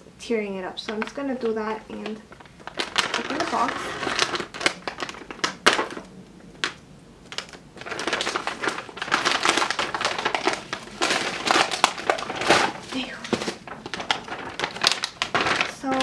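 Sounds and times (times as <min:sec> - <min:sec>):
plastic packaging crinkling: 0:00.8 - 0:16.0
plastic bag tearing: 0:00.9 - 0:16.0.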